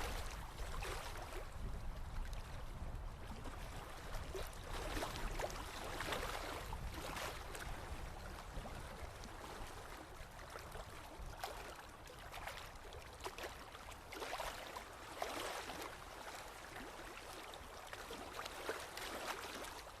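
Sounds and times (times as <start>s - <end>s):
water rushing and splashing: 0.0s - 1.6s, 3.6s - 20.0s.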